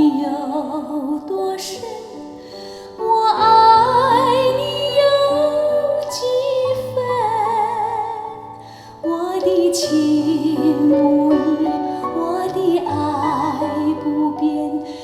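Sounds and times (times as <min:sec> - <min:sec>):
woman singing with vibrato: 0:00.0 - 0:02.2, 0:03.0 - 0:15.0
instrumental accompaniment: 0:00.0 - 0:15.0.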